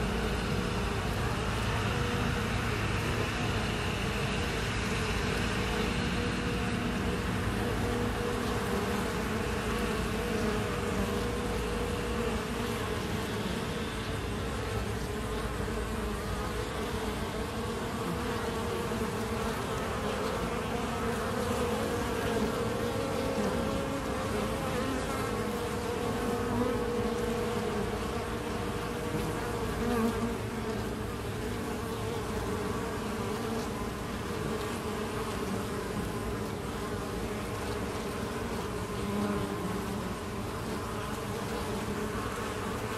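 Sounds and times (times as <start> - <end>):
honeybees buzzing: 0.0 - 42.9.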